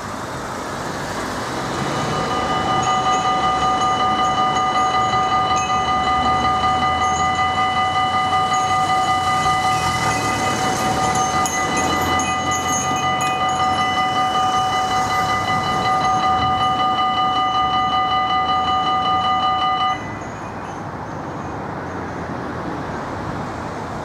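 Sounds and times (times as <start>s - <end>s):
level crossing warning bell: 1.6s - 22.1s.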